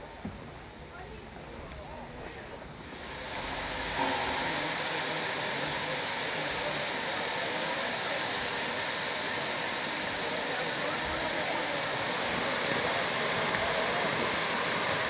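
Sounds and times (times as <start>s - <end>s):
steam locomotive venting steam: 0.0s - 15.0s.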